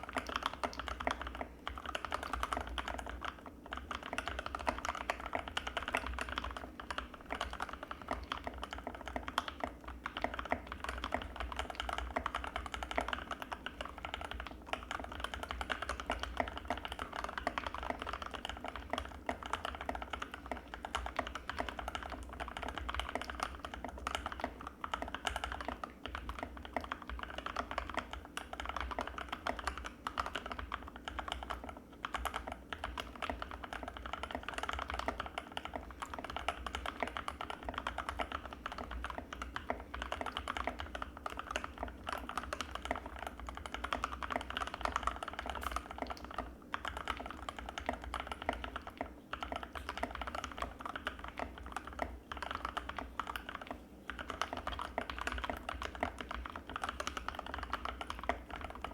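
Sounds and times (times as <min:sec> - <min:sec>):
fast typing on mechanical keyboard: 0:00.0 - 0:58.9.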